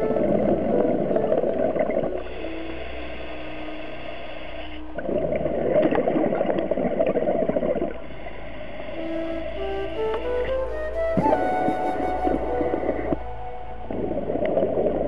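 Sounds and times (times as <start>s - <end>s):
exhaled bubbles underwater: 0.0s - 15.0s.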